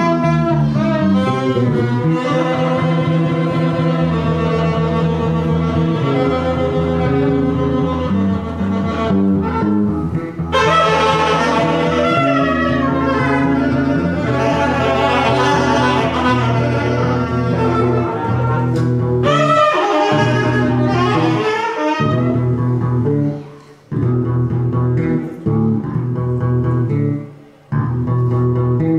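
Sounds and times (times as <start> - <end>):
saxophone melody: 0.0 - 26.2
bowed double bass: 0.0 - 28.9.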